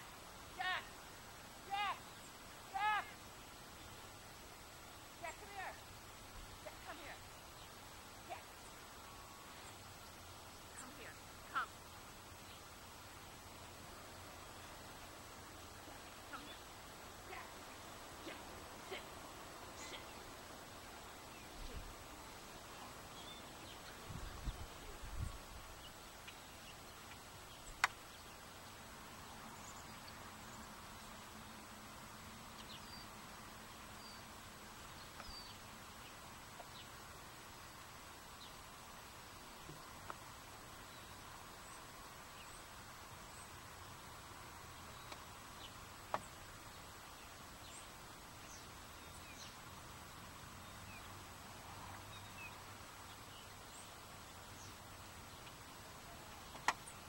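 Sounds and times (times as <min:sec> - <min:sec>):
distant birds chirping: 0:00.0 - 0:31.8, 0:32.4 - 0:57.0.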